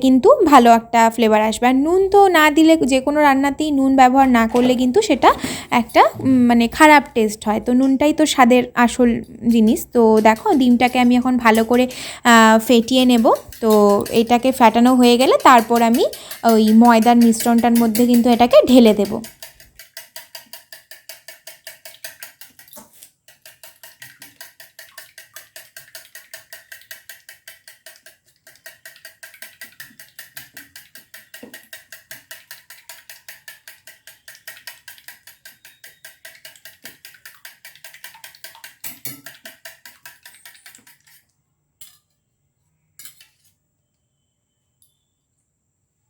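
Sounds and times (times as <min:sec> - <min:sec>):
eggs beaten in a bowl: 0:00.1 - 0:42.0.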